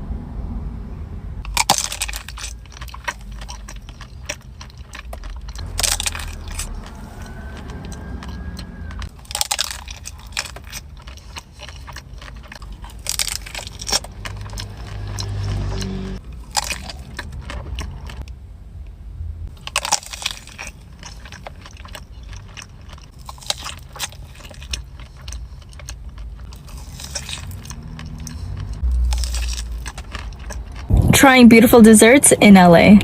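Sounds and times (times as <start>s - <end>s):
crunching and chewing pastry: 1.4s - 18.3s, 19.5s - 30.9s.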